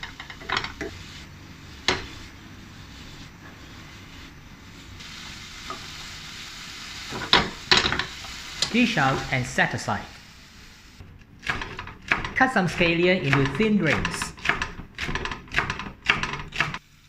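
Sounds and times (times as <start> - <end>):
vegetables sizzling in a pan: 0.0 - 14.4.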